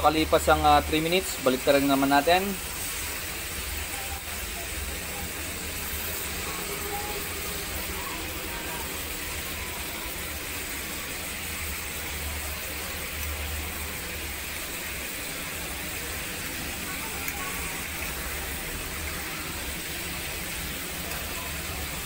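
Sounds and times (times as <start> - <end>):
beef sizzling in hot oil: 0.0 - 22.0.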